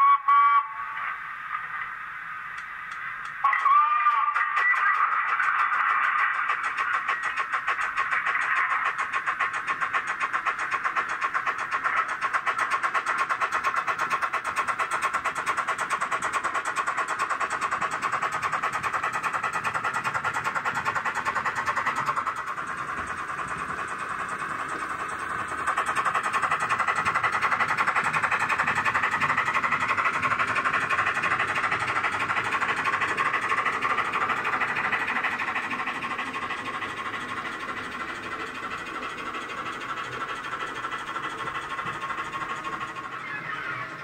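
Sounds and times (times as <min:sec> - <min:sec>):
steam engine chuffing through small speaker: 0:03.2 - 0:44.0.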